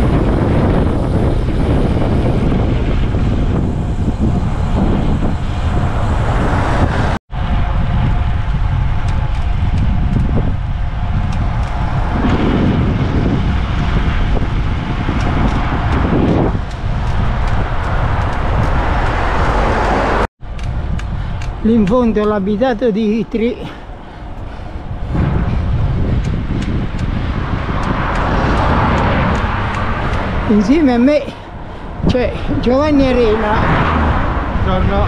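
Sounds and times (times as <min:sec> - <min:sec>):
road noise: 0:00.0 - 0:35.0
wind buffeting microphone: 0:00.0 - 0:35.0.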